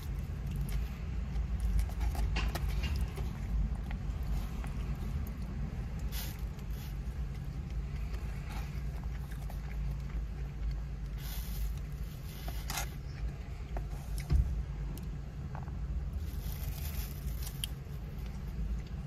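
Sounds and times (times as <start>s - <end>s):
chewing food: 0.0s - 19.0s
low rumble inside car: 0.0s - 19.0s.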